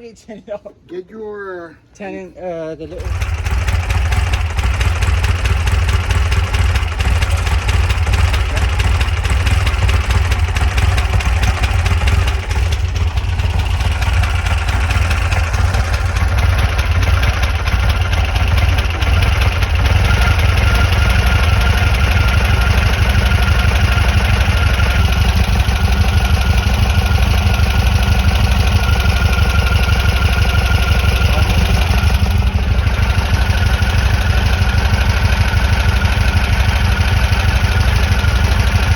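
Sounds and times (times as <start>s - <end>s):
engine idling: 2.9s - 38.9s.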